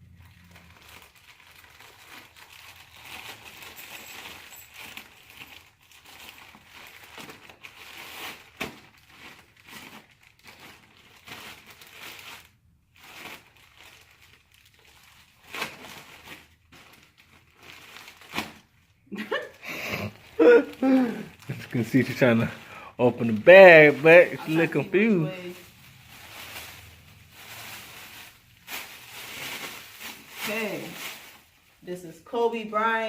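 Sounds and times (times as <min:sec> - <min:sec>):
plastic bag crinkling: 0:00.0 - 0:33.0.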